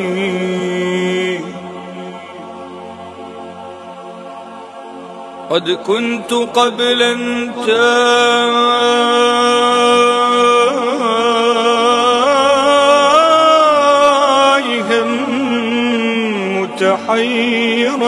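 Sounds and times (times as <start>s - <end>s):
man singing wordless melody: 0.0s - 2.7s, 5.5s - 18.0s.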